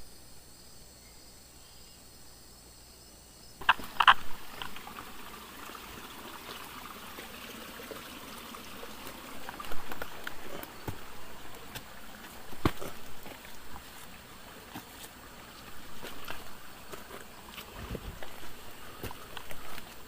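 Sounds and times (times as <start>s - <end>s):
high insect drone: 0.0s - 20.0s
water sounds: 3.6s - 20.0s.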